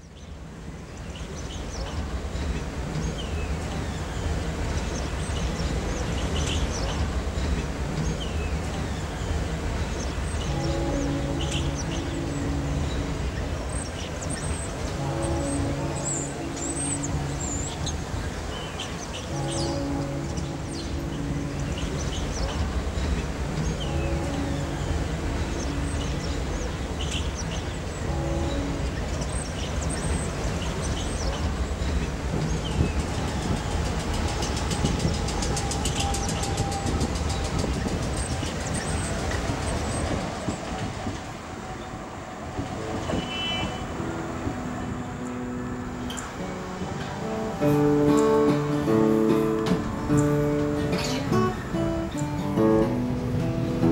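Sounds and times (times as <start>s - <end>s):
birds chirping: 0.0s - 53.9s
soft music of held notes: 0.0s - 53.9s
train rumbling along track: 0.0s - 53.9s.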